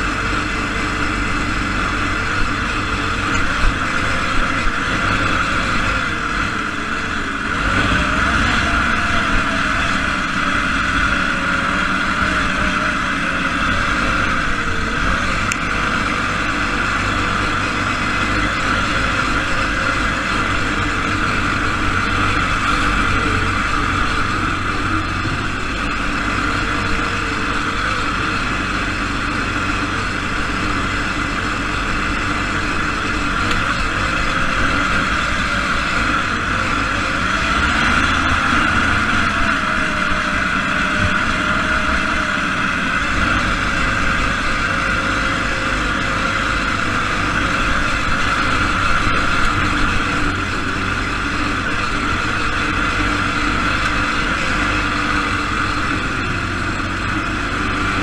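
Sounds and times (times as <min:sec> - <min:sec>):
single-cylinder engine running hard: 0:00.0 - 0:58.0.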